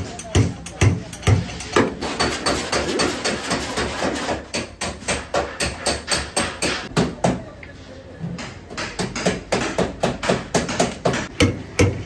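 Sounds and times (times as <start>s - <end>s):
hammer beating sheet metal: 0.0s - 7.4s, 8.7s - 12.0s.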